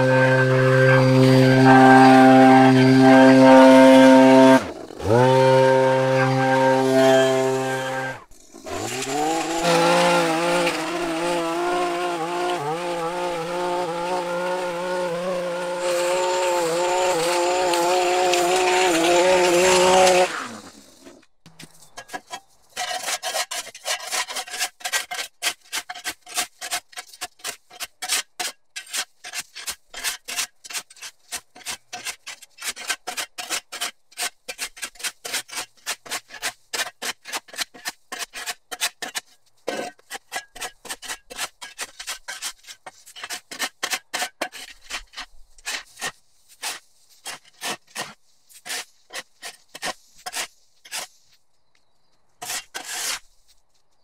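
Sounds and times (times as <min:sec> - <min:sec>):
shovel scraping concrete: 0:00.0 - 0:51.4, 0:52.4 - 0:53.6.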